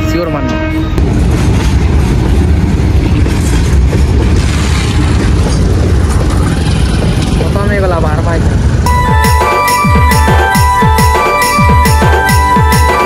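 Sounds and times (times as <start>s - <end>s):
freight train passing: 0.0s - 13.0s.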